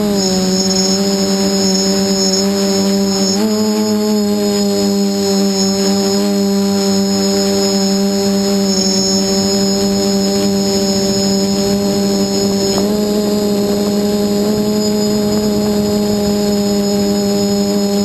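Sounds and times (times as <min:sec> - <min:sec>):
drone motors droning: 0:00.0 - 0:18.0
thin high whine: 0:00.0 - 0:18.0.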